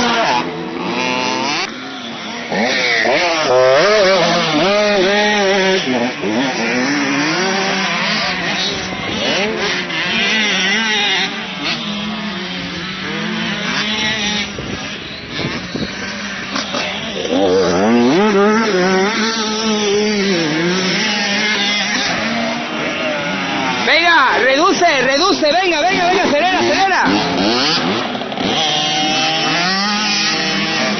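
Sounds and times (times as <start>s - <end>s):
motocross bike engines revving: 0.0s - 30.9s.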